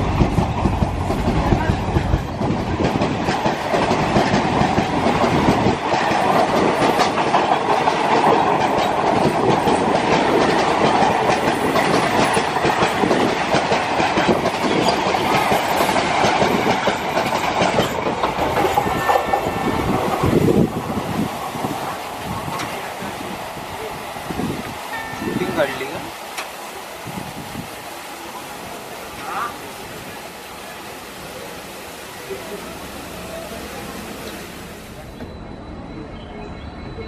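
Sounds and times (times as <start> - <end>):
wheels clickety-clack over rail joints: 0.0 - 31.4
rush of passing trains: 0.0 - 37.0.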